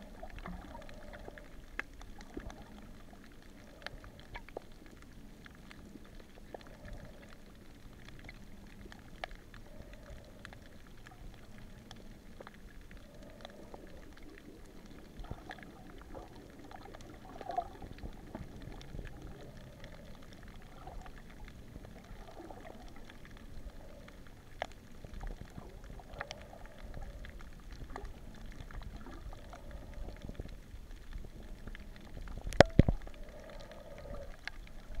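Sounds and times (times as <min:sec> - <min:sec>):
faint clicks: 0:00.0 - 0:35.0
water gurgling swishes: 0:00.0 - 0:35.0.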